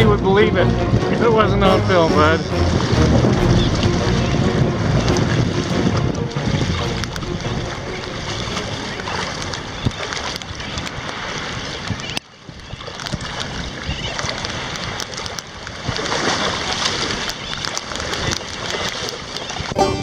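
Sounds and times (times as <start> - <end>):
sea water splashing around legs: 0.0 - 20.0
wind buffeting microphone: 0.0 - 20.0.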